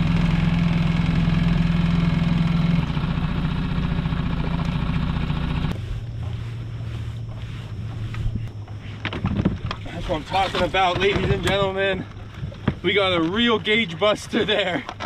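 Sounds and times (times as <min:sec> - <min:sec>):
outboard motor humming: 0:00.0 - 0:15.0.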